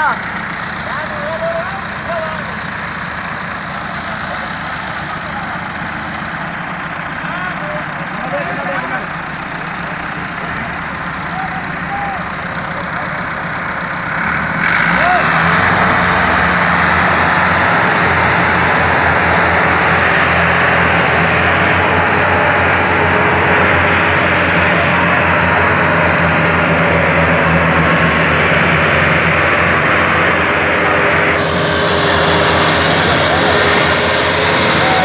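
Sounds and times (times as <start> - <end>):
tractor diesel engines under load: 0.0 - 35.0.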